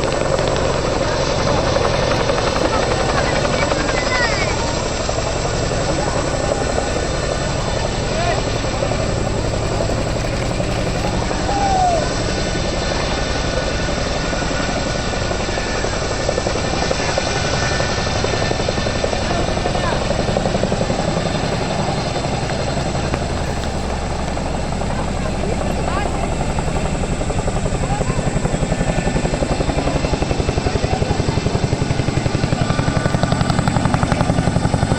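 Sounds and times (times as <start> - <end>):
helicopter rotor chopping: 0.0 - 34.9.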